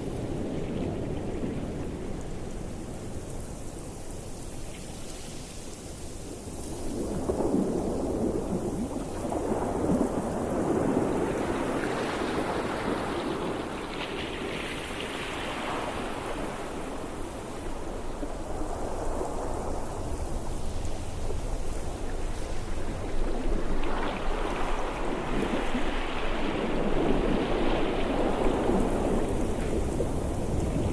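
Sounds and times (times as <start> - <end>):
low rumble of surf: 0.0 - 30.9.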